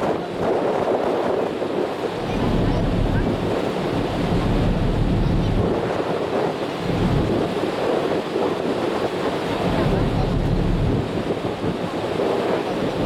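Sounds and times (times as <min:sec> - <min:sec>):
sea washing against hull: 0:00.0 - 0:13.0
wind rumbling on microphone: 0:00.0 - 0:13.0.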